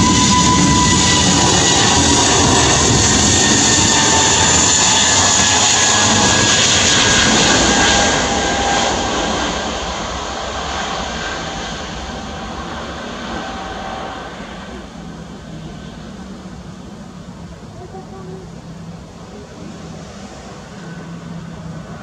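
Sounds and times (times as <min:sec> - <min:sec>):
faint engine whine: 0:00.0 - 0:22.0
jet engines at takeoff: 0:00.0 - 0:22.0.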